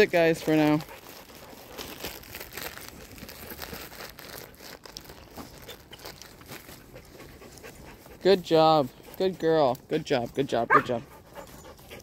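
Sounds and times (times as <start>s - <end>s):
close rustling and crinkling: 0.0s - 12.0s.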